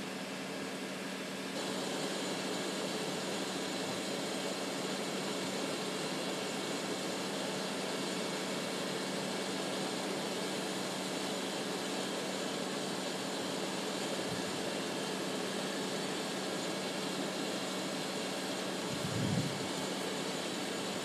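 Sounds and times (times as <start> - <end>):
engine-driven machinery droning: 0.0 - 21.0.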